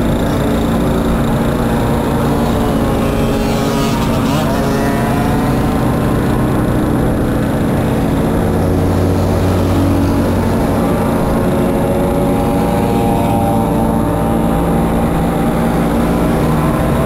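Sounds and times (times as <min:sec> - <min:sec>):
moped engines running: 0:00.0 - 0:17.0
strong low engine note: 0:00.0 - 0:17.0.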